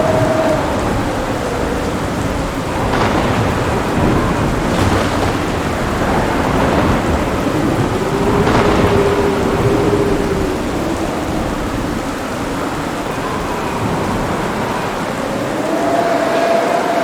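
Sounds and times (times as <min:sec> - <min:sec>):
sharp thunder crackles: 0:00.0 - 0:16.7
heavy rain: 0:00.0 - 0:17.0
rolling thunder: 0:00.0 - 0:17.0.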